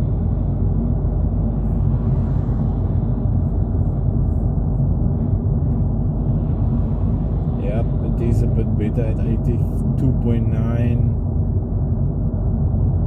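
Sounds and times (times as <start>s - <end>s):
car cabin road and engine drone: 0.0s - 13.0s.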